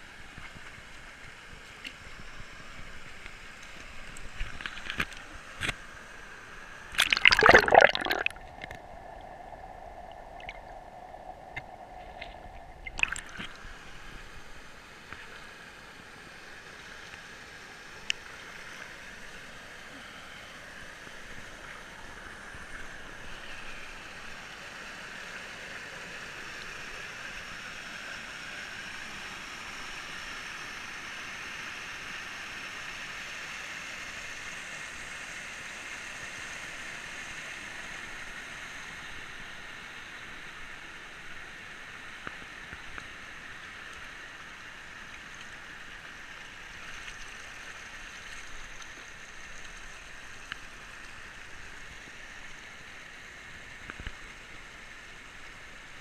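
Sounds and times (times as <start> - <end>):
stream rushing over stones: 0.4 - 56.0.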